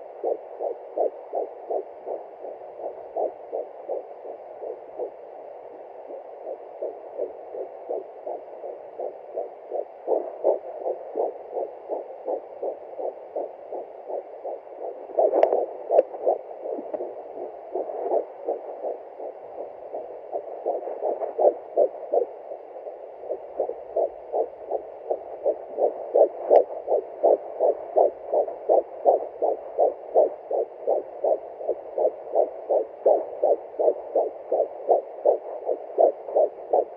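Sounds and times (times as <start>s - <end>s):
fetal heartbeat on doppler: 0.0s - 36.9s.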